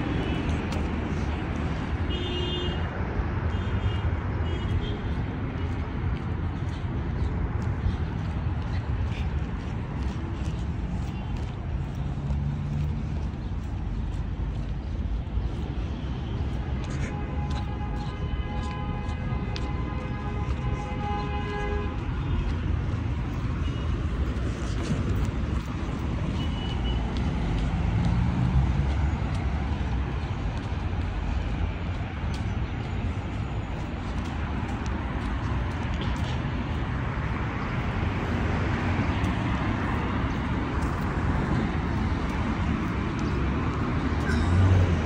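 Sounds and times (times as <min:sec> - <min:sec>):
city traffic rumble: 0:00.0 - 0:45.0.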